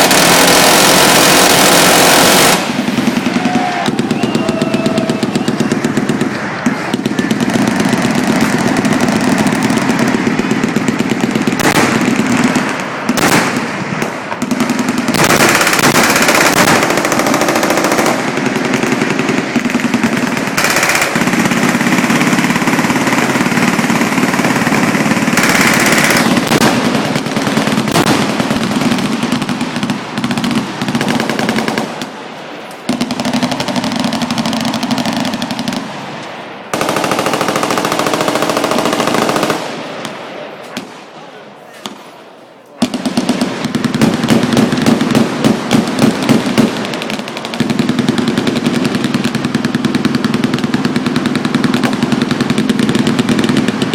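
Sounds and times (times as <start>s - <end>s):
automatic machine-gun fire: 0.0s - 32.1s, 32.9s - 35.9s, 36.7s - 39.9s, 42.8s - 53.9s.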